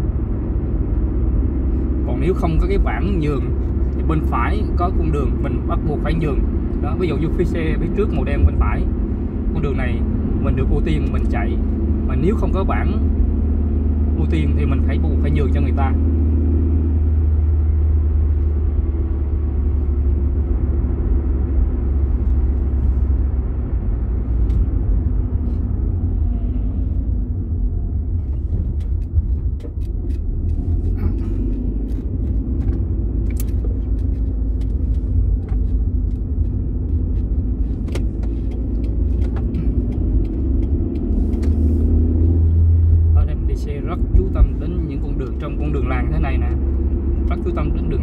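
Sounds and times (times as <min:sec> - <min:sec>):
engine and tyre rumble: 0:00.0 - 0:48.0.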